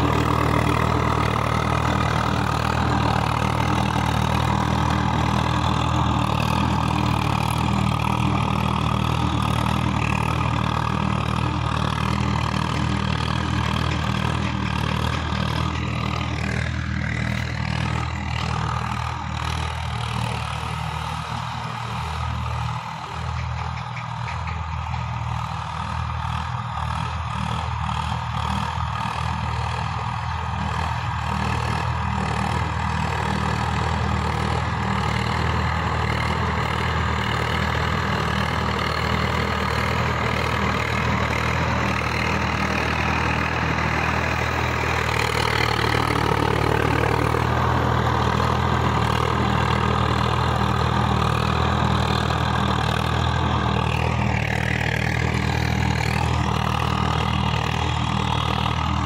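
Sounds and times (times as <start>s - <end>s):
diesel tractor engines under load: 0.0s - 59.0s.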